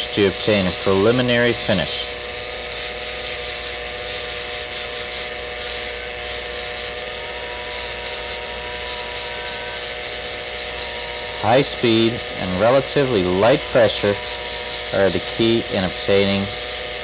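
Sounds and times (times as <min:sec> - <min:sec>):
dental drill whining: 0:00.0 - 0:17.0
wire brush hissing on metal: 0:00.0 - 0:17.0.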